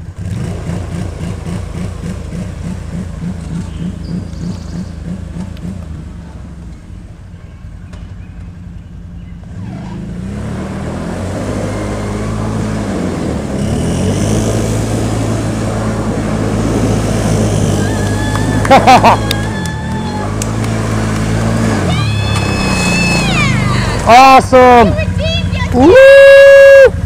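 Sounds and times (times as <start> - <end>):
quad bike engine revving: 0.0 - 7.4, 8.2 - 27.0.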